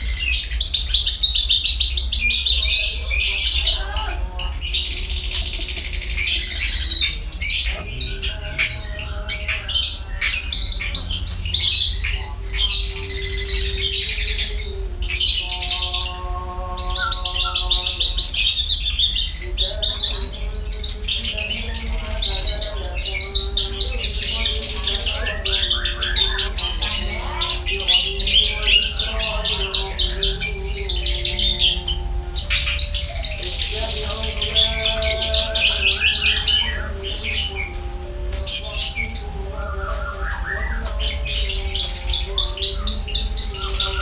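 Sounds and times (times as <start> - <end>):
bird singing high chirps and trills: 0.0 - 44.0.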